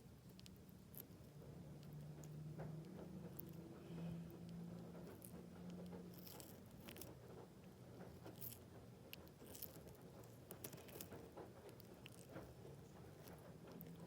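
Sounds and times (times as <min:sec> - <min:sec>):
tortoise chewing food: 0:00.0 - 0:14.0.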